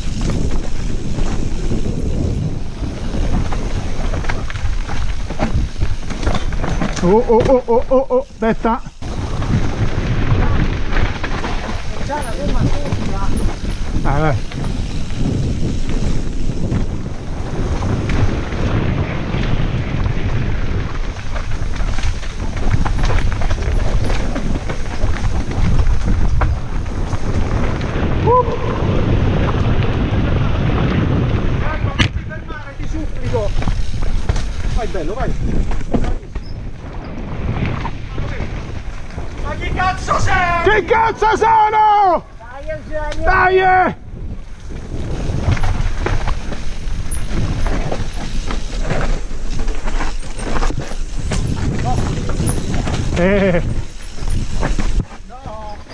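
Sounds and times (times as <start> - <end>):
tyres rolling over rock and dirt: 0.0 - 41.4, 44.2 - 55.9
bike knocking and rattling: 0.0 - 55.9
wind rushing over microphone: 0.0 - 55.9.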